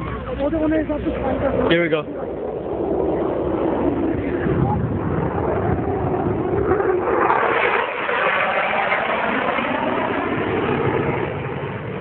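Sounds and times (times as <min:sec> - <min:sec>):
fighter jet flying past: 0:00.0 - 0:12.0.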